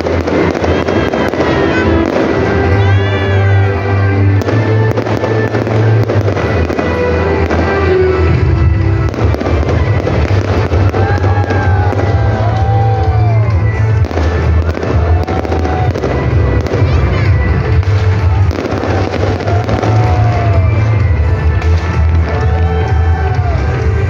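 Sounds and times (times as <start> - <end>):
fireworks popping and crackling: 0.0 - 24.0
show music with heavy bass: 0.1 - 24.0.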